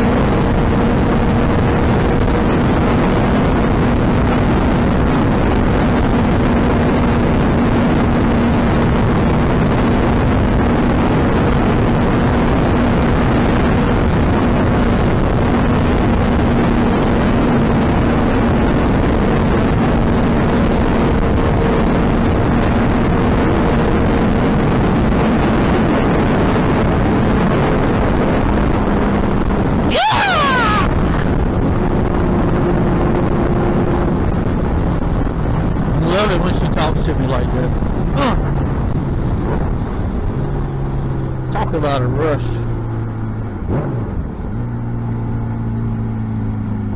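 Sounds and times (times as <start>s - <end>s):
wind rush on microphone: 0.0s - 41.6s, 42.6s - 46.9s.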